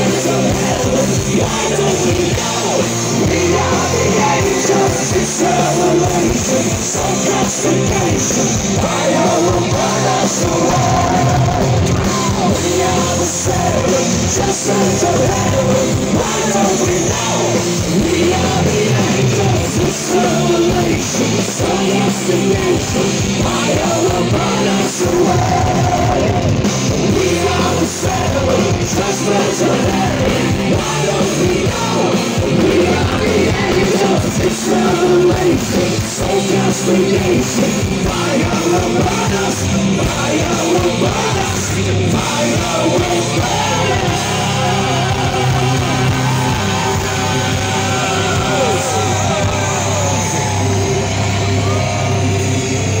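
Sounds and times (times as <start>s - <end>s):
drums: 0.0s - 53.0s
electric guitars: 0.0s - 53.0s
keyboards: 0.0s - 53.0s
singers singing together: 0.0s - 53.0s.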